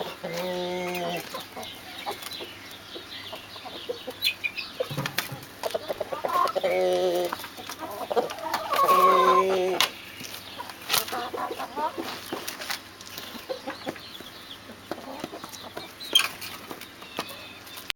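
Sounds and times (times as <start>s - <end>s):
chickens clucking and calling: 0.0s - 17.9s.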